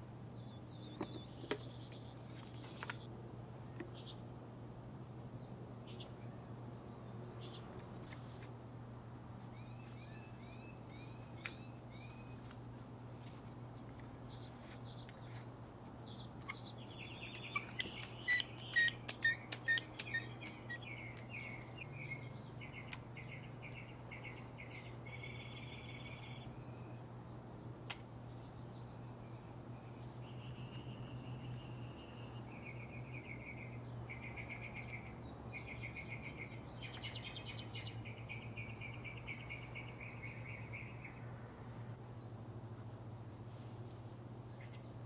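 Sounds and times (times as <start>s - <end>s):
songbirds chirping and calling: 0.0s - 4.6s, 5.2s - 8.6s, 9.3s - 45.0s.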